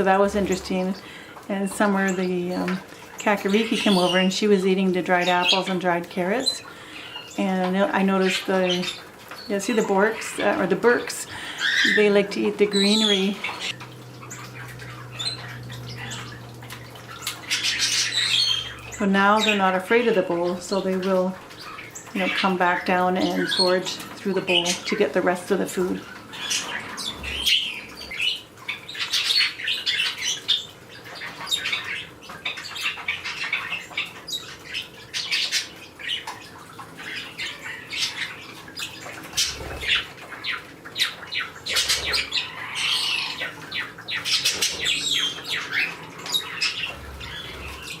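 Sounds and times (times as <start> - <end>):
parakeets chirping and squawking: 0.0 - 48.0.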